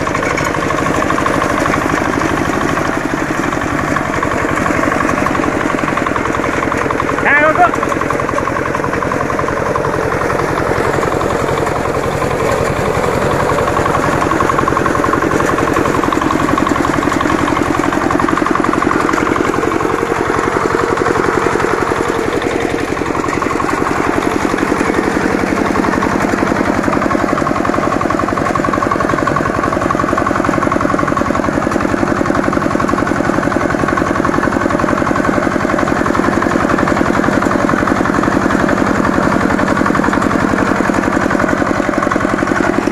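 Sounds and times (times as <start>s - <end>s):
power reaper engine running: 0.0s - 42.9s.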